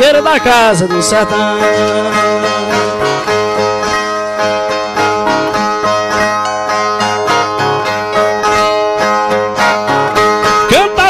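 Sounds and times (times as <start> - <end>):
violas strummed and plucked: 0.0 - 11.0.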